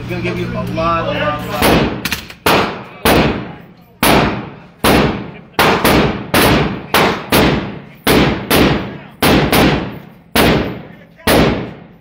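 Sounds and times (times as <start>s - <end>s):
rifle shots echoing: 1.6s - 12.0s.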